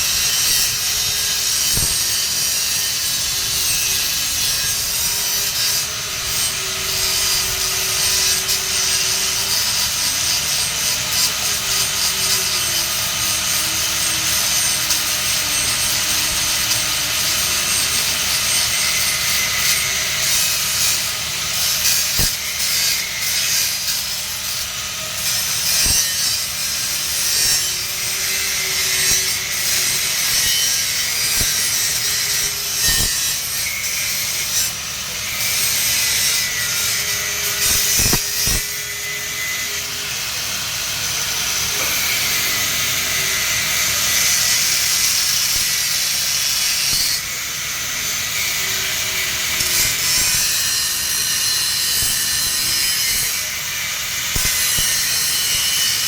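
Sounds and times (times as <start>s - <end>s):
welding arc crackling hiss: 0.0s - 56.0s.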